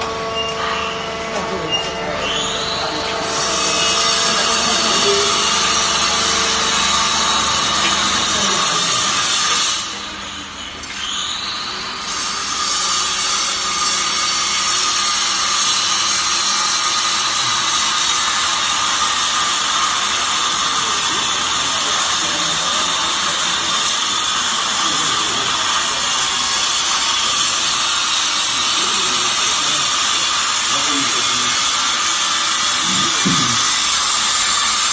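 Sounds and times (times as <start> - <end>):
high machine whine: 0.0 - 34.9
machine hissing: 0.0 - 34.9.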